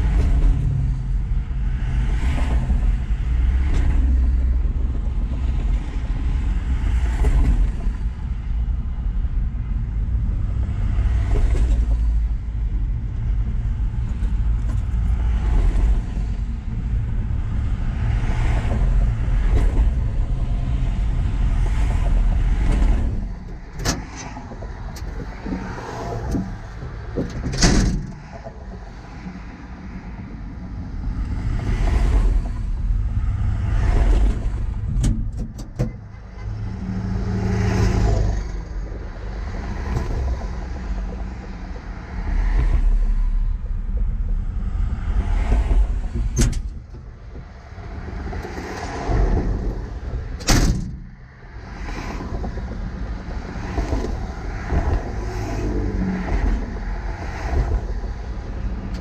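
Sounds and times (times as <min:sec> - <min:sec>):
highway traffic passing: 0:00.0 - 0:59.0.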